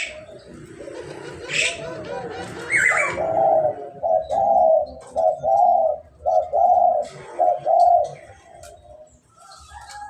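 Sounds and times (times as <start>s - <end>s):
dove cooing: 0.0s - 9.1s.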